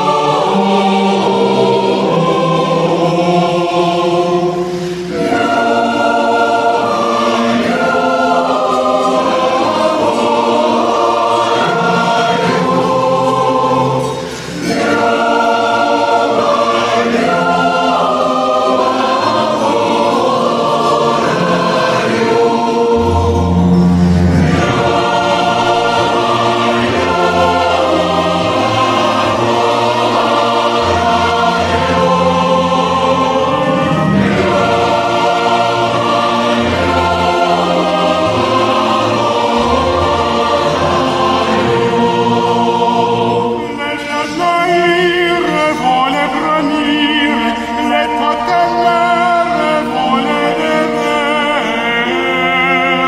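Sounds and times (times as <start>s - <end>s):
choir singing sustained chords: 0.0s - 53.0s.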